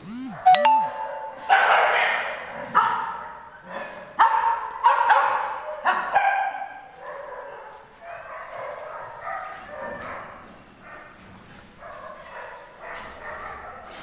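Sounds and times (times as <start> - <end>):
dogs barking and yipping: 0.4 - 14.0.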